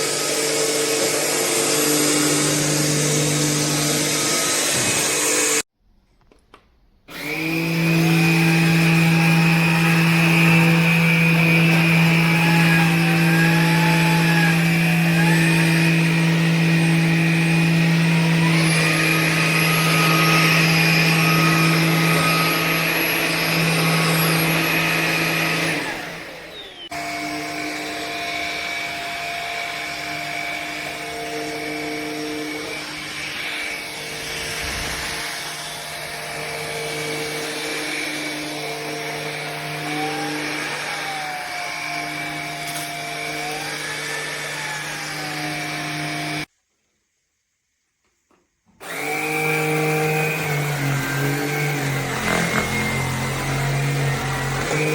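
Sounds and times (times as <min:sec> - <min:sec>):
vacuum motor hum and whine: 0:07.1 - 0:46.4, 0:48.8 - 0:54.9.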